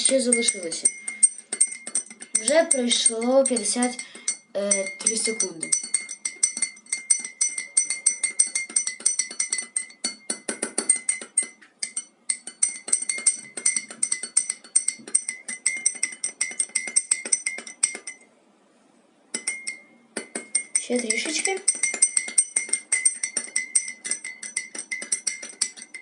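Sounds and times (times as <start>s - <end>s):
teaspoon clinking in ceramic mug: 0.0s - 18.2s, 19.3s - 26.0s.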